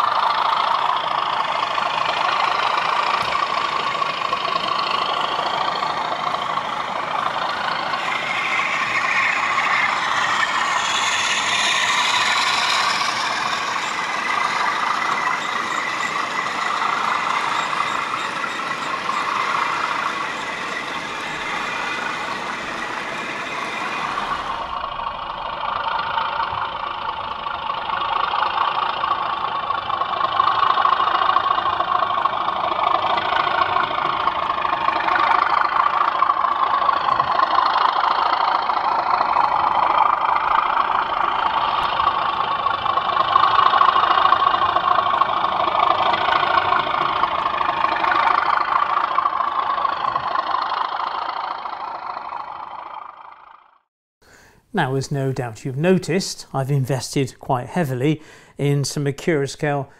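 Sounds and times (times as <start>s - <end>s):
wheels rattling on track: 0.0s - 53.8s
model diesel engine sound: 0.0s - 59.9s.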